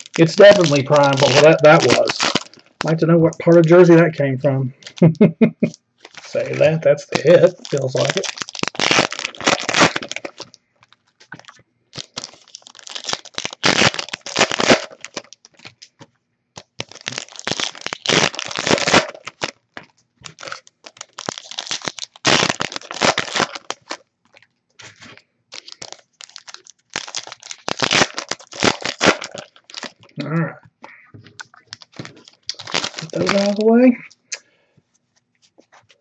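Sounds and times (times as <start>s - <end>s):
foil packs crinkling and tearing: 0.0s - 4.0s, 4.8s - 16.0s, 16.6s - 30.2s, 31.3s - 33.8s.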